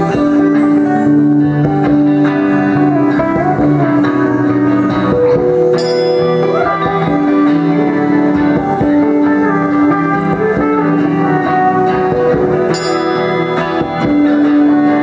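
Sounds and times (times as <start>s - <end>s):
electric guitar held notes: 0.0s - 15.0s
live rock band playing: 0.0s - 15.0s.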